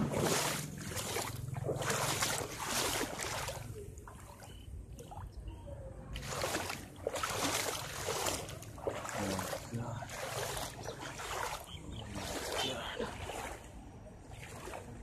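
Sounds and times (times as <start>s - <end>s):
footsteps splashing through water: 0.0s - 5.2s, 6.1s - 15.0s.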